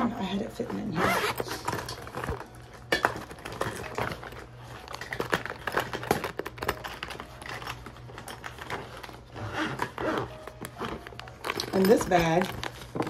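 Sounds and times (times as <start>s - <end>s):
small containers clicking and knocking: 1.4s - 13.0s.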